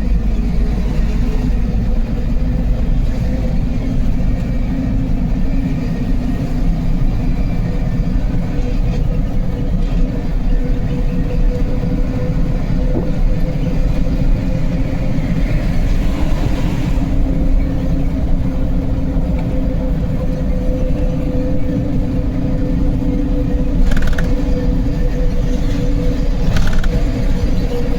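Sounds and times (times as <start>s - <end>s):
truck engine droning: 0.0s - 27.9s.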